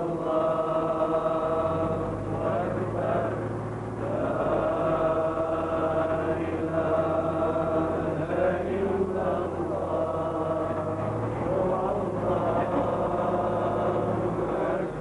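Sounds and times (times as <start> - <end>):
man chanting recitation: 0.0 - 15.0
steady low hum: 0.0 - 15.0.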